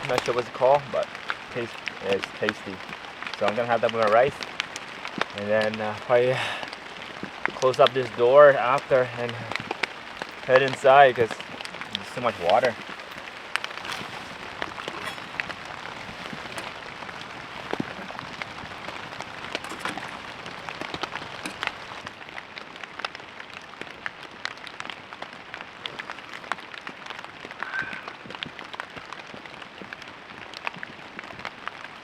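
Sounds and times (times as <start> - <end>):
rain falling on a tent: 0.0 - 32.0.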